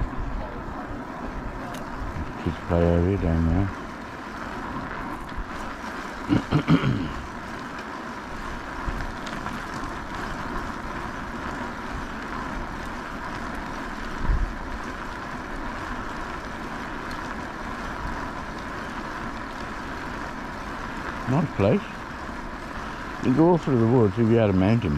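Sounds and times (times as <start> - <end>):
faint steady whine: 0.0 - 24.9
wind and rolling noise: 0.0 - 24.9.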